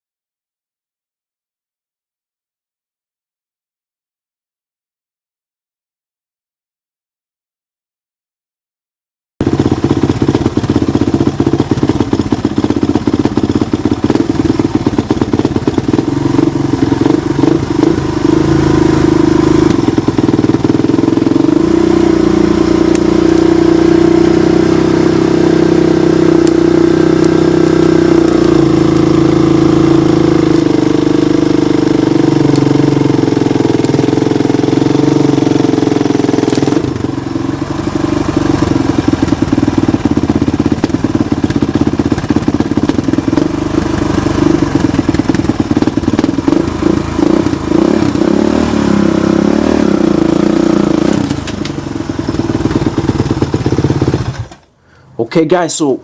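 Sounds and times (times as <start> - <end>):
engine running loudly: 9.4 - 55.4.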